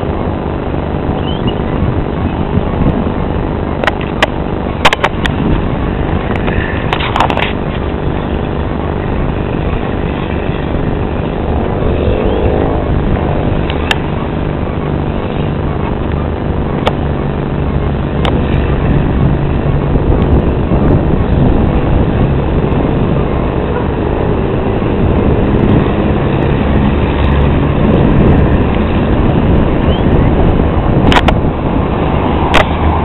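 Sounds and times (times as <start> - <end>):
distant jet engines rumbling: 0.0 - 33.0.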